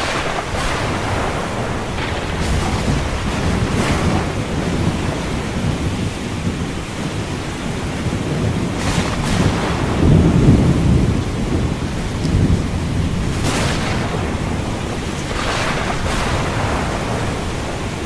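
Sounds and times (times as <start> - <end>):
ocean surf: 0.0 - 18.0
rolling thunder: 0.0 - 18.0
steady rain: 0.0 - 18.0.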